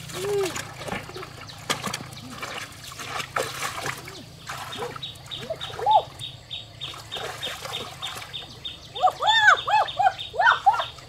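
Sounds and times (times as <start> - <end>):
water splashing in shallows: 0.0 - 11.0.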